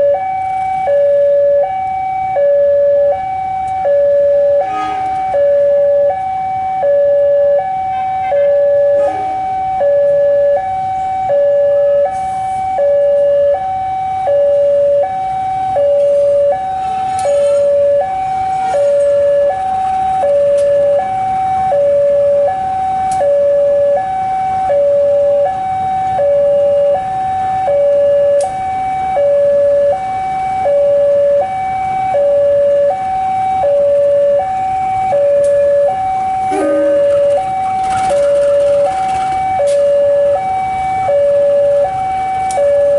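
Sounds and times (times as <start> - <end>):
two-tone electronic alarm: 0.0 - 42.9.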